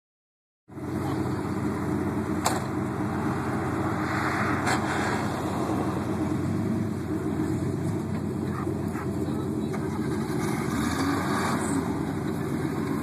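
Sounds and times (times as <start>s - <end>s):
vehicle engine running: 0.7s - 13.0s.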